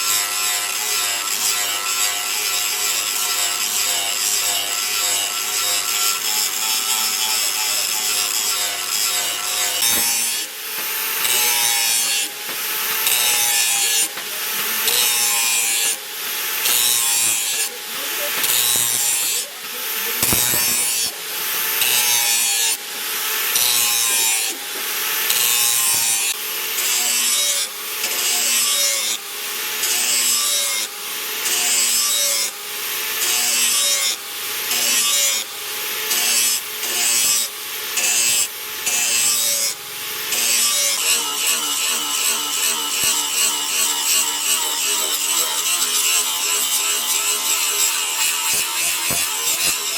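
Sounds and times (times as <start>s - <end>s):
file rasping on steel blade: 0.0s - 29.2s, 29.8s - 49.9s.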